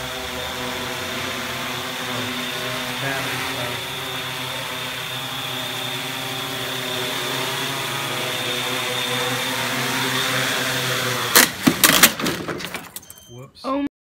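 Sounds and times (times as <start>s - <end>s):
drone rotors humming: 0.0s - 12.5s.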